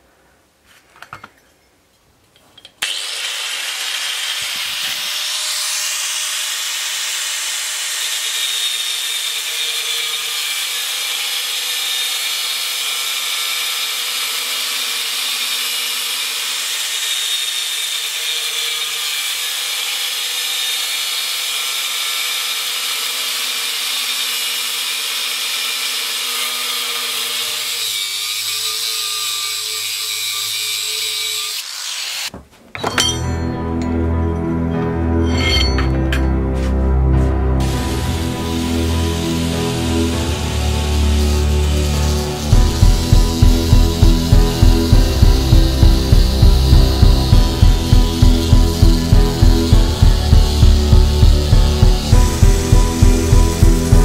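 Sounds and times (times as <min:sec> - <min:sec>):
angle grinder cutting steel: 0:02.8 - 0:34.1, 0:35.2 - 0:36.7, 0:37.6 - 0:54.0.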